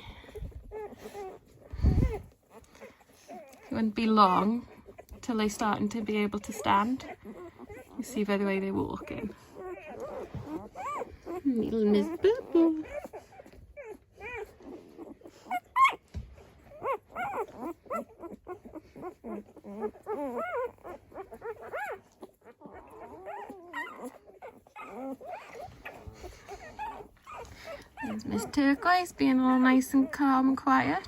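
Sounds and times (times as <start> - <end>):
puppies squeaking and whimpering: 0.0 - 31.0.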